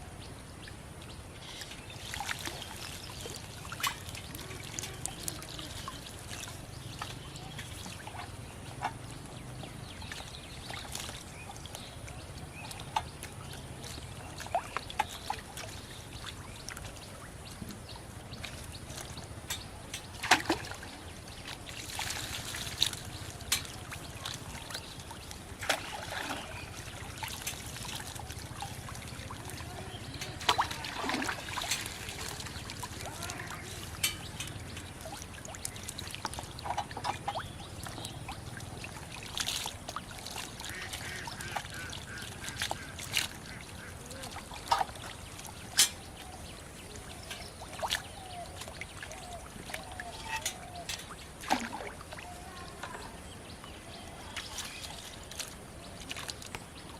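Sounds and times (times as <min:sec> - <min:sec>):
water trickling and splashing: 0:00.0 - 0:56.9
water dripping: 0:01.5 - 0:53.8.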